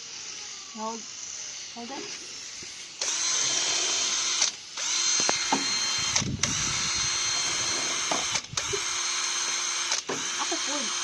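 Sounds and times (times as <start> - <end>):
electric drill motor whine: 0.0 - 11.0.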